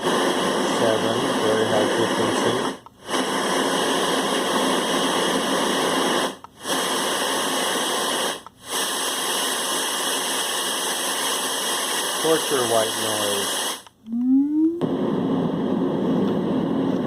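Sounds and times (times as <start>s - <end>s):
high-pitched white noise hiss: 0.0s - 17.0s.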